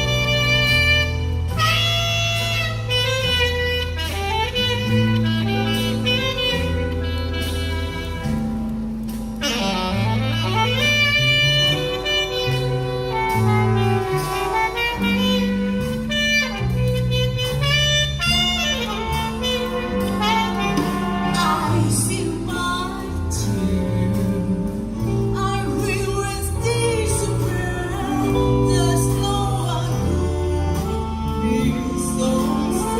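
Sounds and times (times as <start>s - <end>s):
bass line: 0.0s - 32.9s
jazz big band playing: 0.0s - 32.9s
saxophones playing melody: 0.0s - 32.9s.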